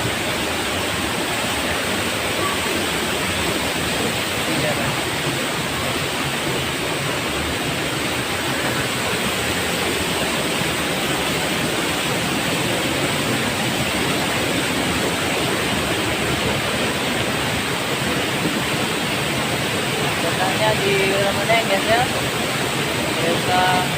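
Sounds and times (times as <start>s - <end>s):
waterfall roaring: 0.0s - 23.9s.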